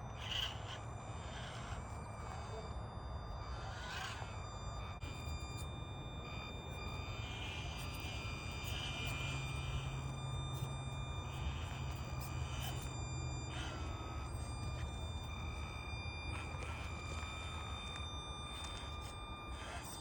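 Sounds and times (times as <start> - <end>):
low hum: 0.0 - 20.0
small electric motor whining: 0.0 - 20.0.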